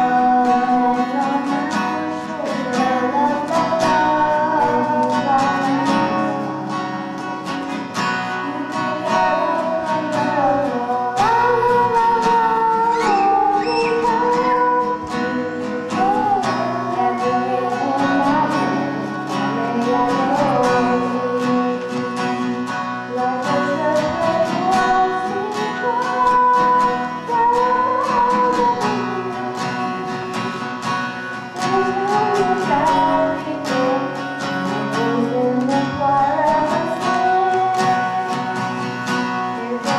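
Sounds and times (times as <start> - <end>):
acoustic guitar picked and strummed: 0.0 - 39.9
people singing slow melody: 0.0 - 39.9.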